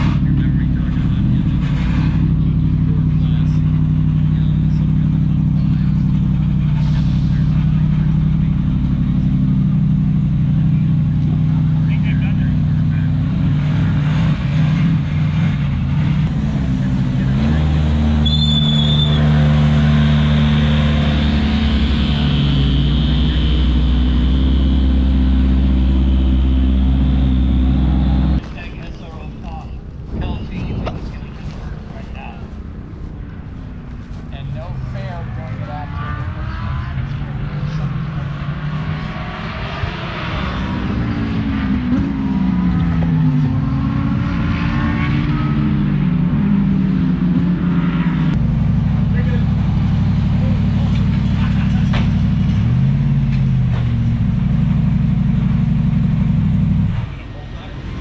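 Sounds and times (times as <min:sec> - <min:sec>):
race car engines at low revs: 0:00.0 - 0:58.0.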